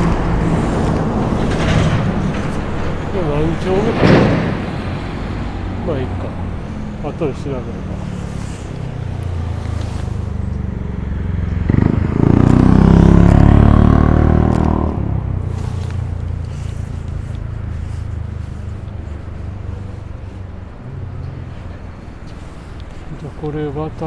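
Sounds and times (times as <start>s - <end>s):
road traffic: 0.0s - 24.0s
vehicle passing by: 0.0s - 24.0s.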